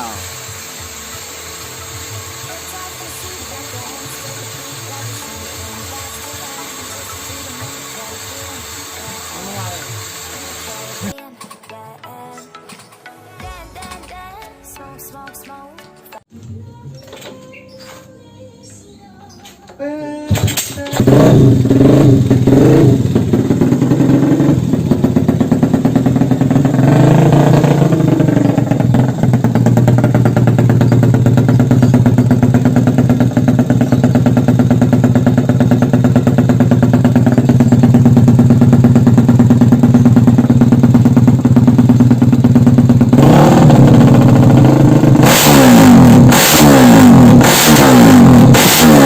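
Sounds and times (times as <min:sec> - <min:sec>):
motorcycle engine idling and revving: 0:00.0 - 0:11.2, 0:19.2 - 0:49.0.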